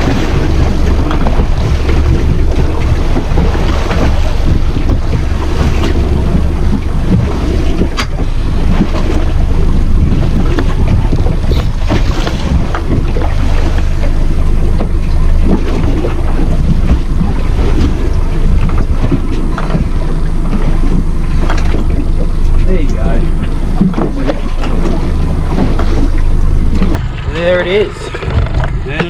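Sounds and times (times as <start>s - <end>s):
water slapping against hull: 0.0s - 29.0s
wind buffeting microphone: 0.0s - 29.0s.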